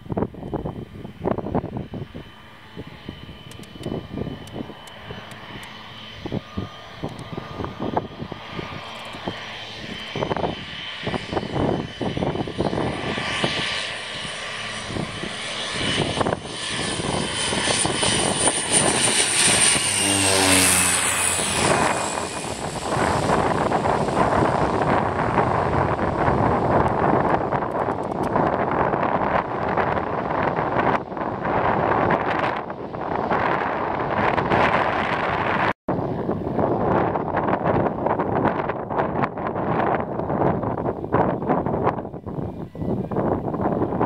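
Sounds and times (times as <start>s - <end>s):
turboprop engines whining: 0.0s - 44.0s
wind buffeting microphone: 0.0s - 44.0s.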